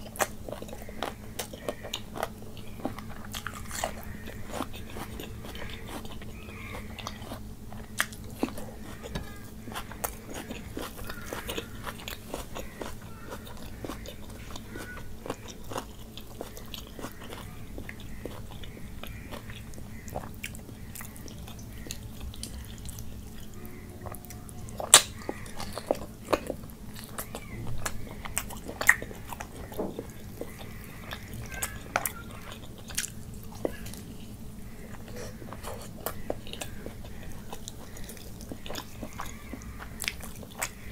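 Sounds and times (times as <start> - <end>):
chewing and mouth clicks: 0.0 - 40.9
steady low hum: 0.0 - 40.9.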